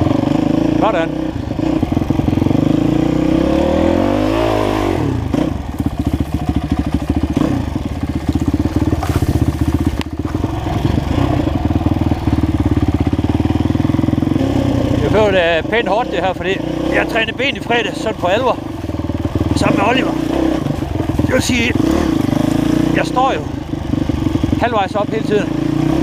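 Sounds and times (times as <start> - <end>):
dirt bike engine: 0.0 - 26.0.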